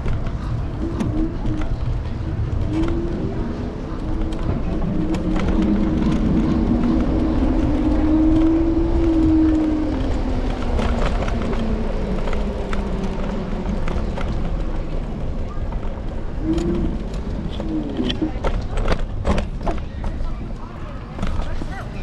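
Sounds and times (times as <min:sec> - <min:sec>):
pitched vehicle hum: 0:00.0 - 0:22.0
wind and road rumble: 0:00.0 - 0:22.0.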